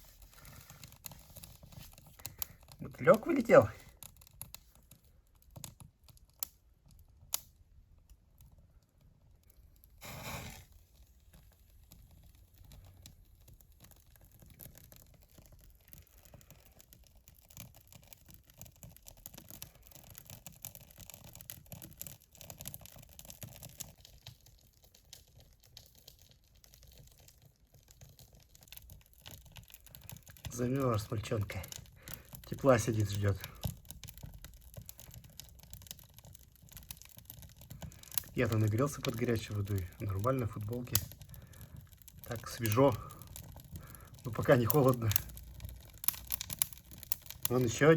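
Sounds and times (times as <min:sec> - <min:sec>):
firewood and bark rustling: 0:00.0 - 0:47.9.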